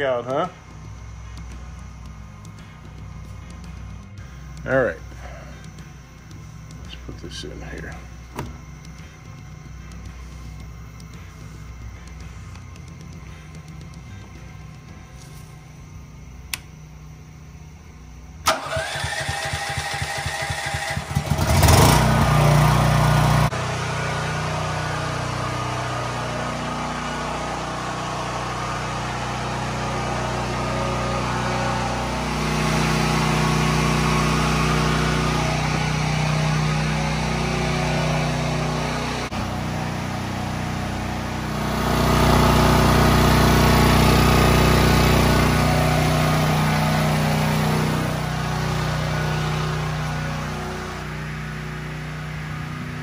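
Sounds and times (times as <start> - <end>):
generator starter cranking: 0.0 - 15.1, 18.4 - 52.8
generator engine running: 0.0 - 53.0.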